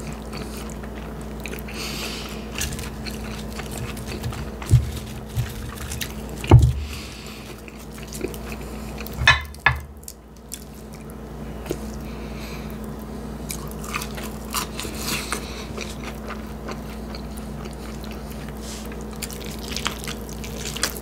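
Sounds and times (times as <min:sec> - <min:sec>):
chewing and wet mouth sounds: 0:00.0 - 0:21.0.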